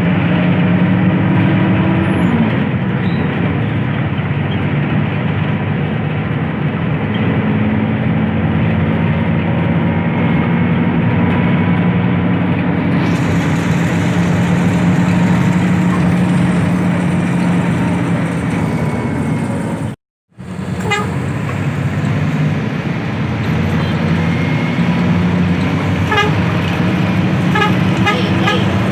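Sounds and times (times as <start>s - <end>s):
bus engine drone: 0.0s - 28.9s
road and wind noise: 0.0s - 28.9s.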